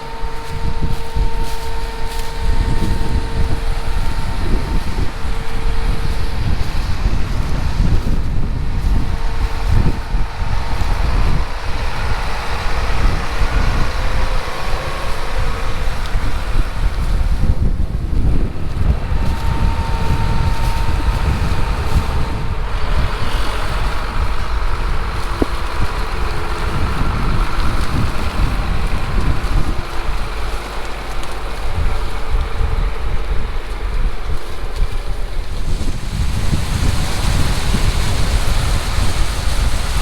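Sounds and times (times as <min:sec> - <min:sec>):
farm machine engine running: 0:00.0 - 0:40.0
wind noise on microphone: 0:00.0 - 0:40.0.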